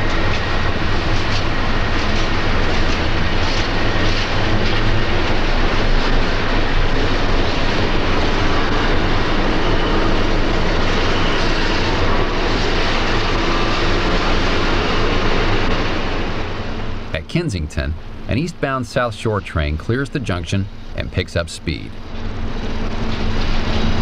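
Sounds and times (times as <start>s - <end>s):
electric train running: 0.0s - 17.2s, 17.9s - 24.0s.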